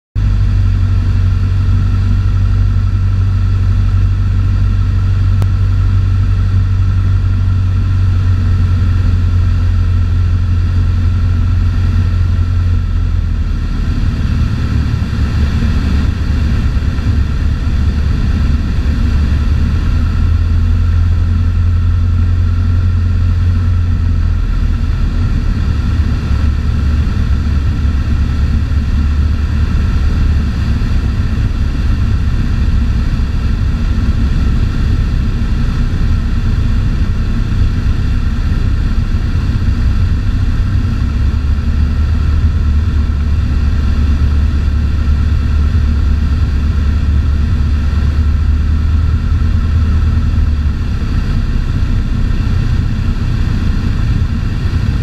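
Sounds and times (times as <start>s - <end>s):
aircraft engine droning: 0.2s - 55.0s.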